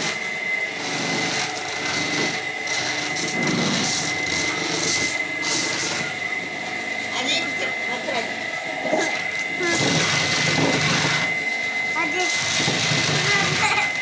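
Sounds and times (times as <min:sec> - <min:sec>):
small electric motor whining: 0:00.0 - 0:14.0.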